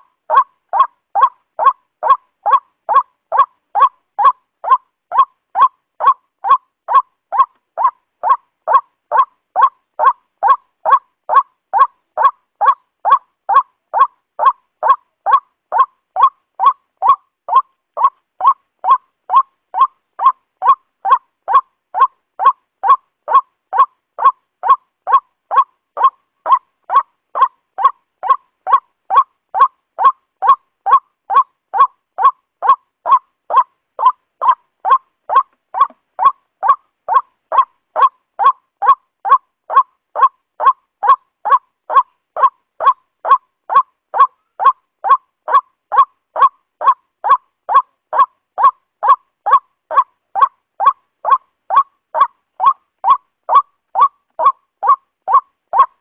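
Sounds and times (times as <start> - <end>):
waterhen call: 0.0 - 56.0.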